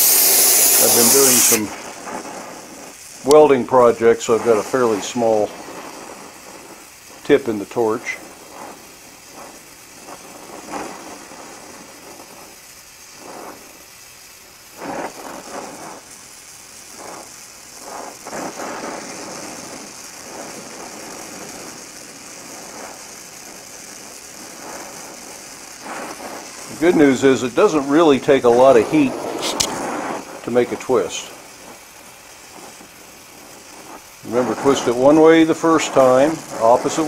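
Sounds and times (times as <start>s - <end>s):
gas torch flame hissing: 0.0s - 37.0s.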